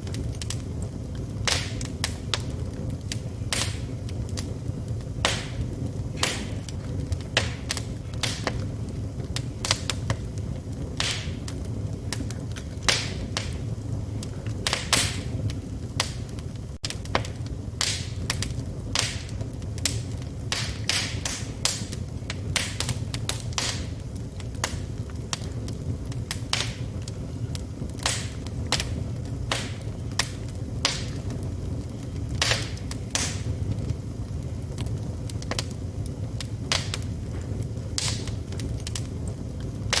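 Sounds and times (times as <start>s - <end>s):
low rumble of flames: 0.0s - 40.0s
sharp pops of fire: 0.0s - 40.0s
wood fire crackling: 0.0s - 40.0s.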